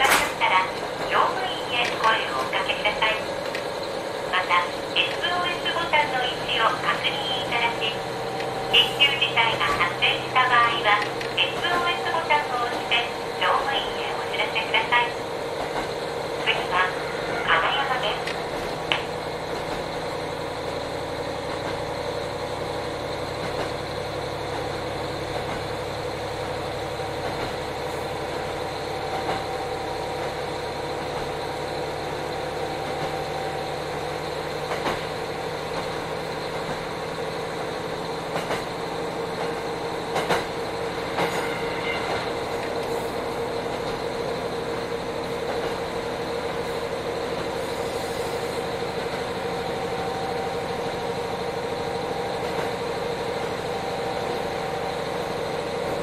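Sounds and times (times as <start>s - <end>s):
diesel engine drone: 0.0s - 56.0s
train wheels on rails: 0.0s - 56.0s.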